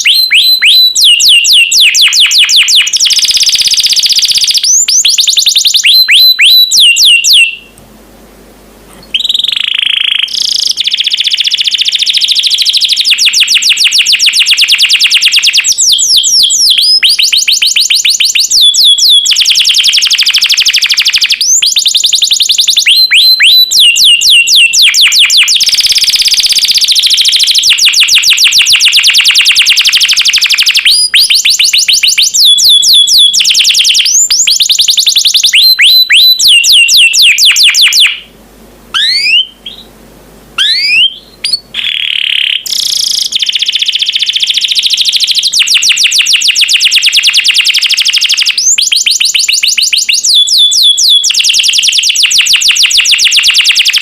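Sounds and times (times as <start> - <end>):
canary trilling song: 0.0 - 7.8, 9.0 - 38.3, 38.9 - 39.9, 40.6 - 54.0.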